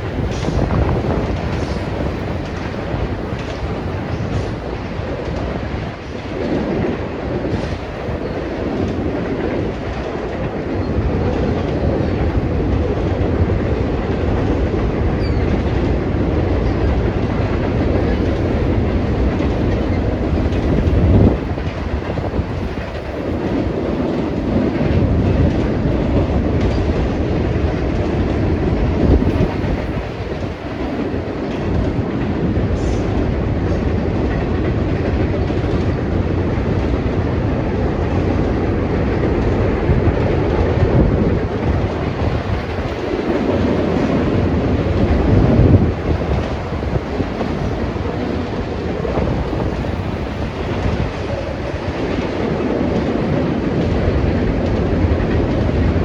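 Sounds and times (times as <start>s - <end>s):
freight train rumbling on rails: 0.0s - 56.0s.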